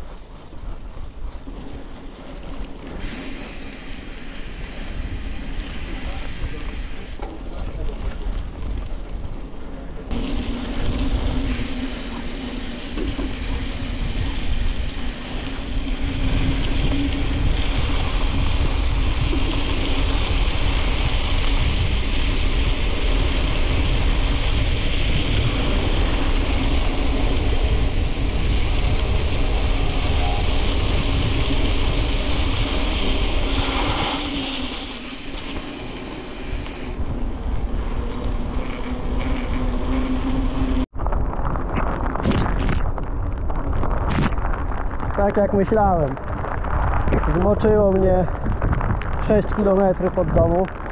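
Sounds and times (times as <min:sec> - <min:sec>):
bicycle tyres rolling on road: 0:00.0 - 0:50.9
wind rushing over microphone: 0:00.0 - 0:50.9.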